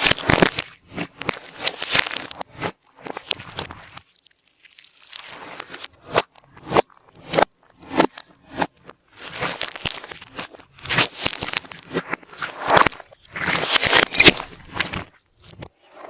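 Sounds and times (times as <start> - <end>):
slime squishing: 0.0 - 16.0.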